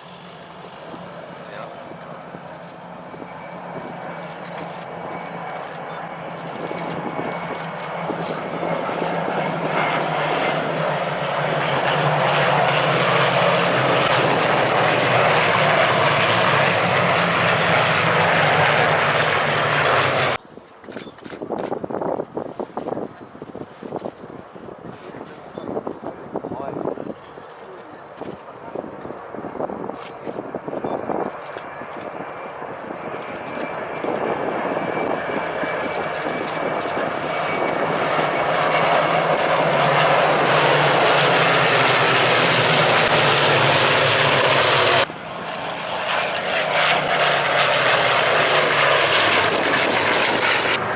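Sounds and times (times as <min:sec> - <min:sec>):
propeller aircraft drone: 0:00.0 - 0:50.9.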